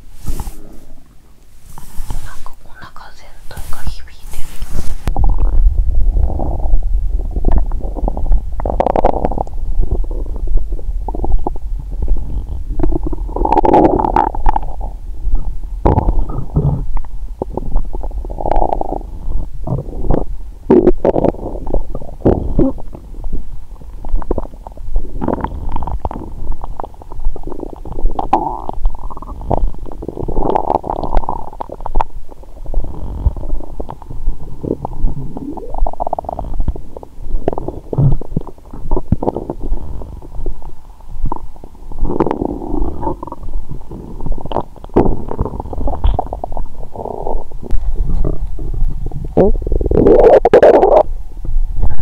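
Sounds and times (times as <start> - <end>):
stomach gurgling and rumbling: 0.0 - 52.0.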